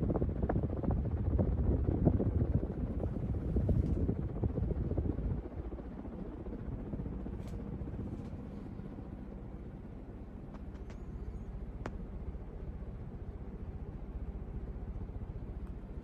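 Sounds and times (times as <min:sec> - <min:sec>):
ceiling fan whoosh of air: 0:00.0 - 0:16.0.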